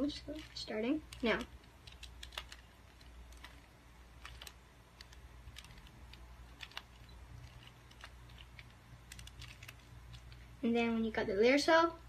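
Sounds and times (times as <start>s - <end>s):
puzzle cube plastic clicks: 0.2s - 10.5s.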